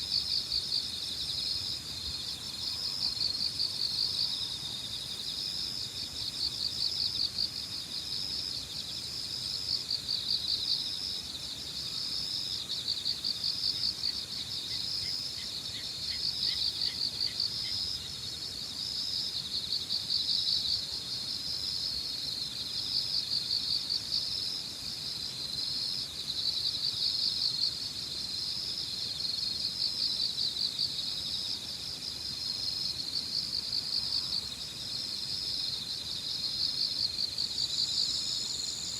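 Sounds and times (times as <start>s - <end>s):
crickets chirping: 0.0s - 38.9s
low hiss of wind: 0.0s - 38.9s.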